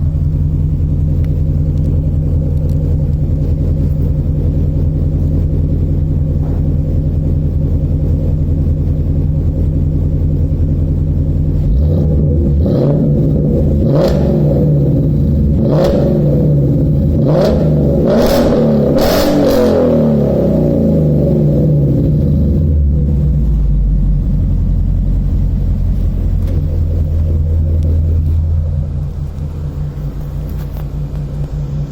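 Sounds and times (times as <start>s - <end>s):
car engine idling and revving: 0.0s - 31.9s
exhaust cracks: 0.0s - 31.9s.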